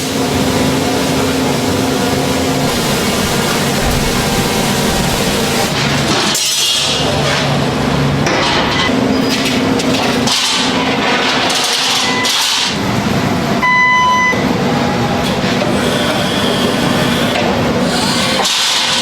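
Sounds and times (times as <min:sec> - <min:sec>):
steady workshop noise: 0:00.0 - 0:19.0.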